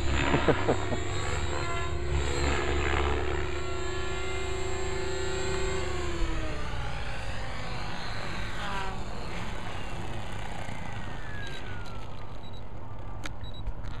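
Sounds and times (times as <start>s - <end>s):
helicopter motor whine falling: 0.0s - 14.0s.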